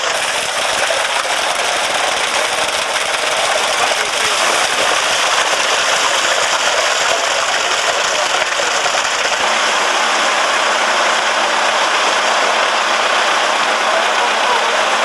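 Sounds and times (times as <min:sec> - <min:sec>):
low engine hum: 0:00.0 - 0:15.0
wet concrete pouring down chute: 0:00.0 - 0:15.0.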